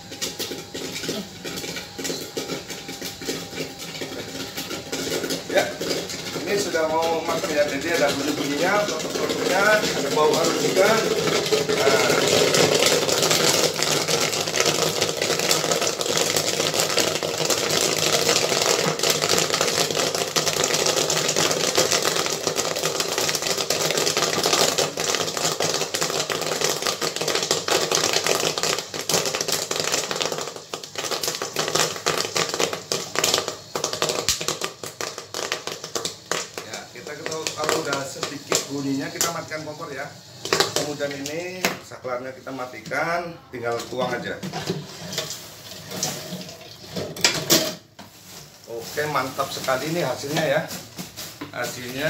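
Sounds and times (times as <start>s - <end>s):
popcorn popping: 0.0s - 52.0s.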